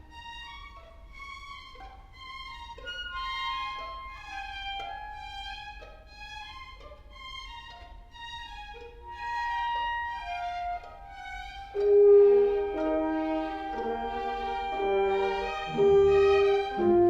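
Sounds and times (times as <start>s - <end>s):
violins playing classical melody: 0.0s - 17.0s.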